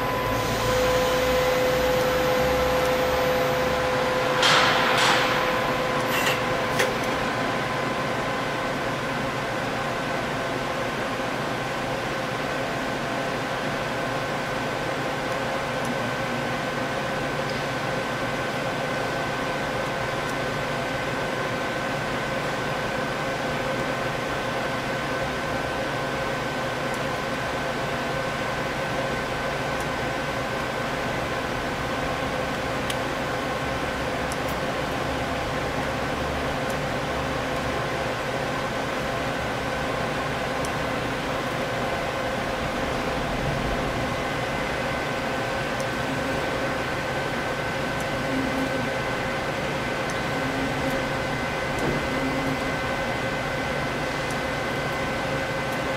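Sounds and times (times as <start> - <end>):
lathe running with high whine: 0.0 - 55.9.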